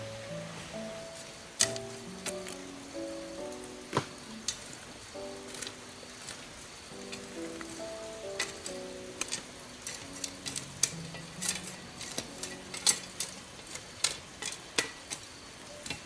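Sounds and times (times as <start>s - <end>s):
faint soft background music: 0.0s - 16.0s.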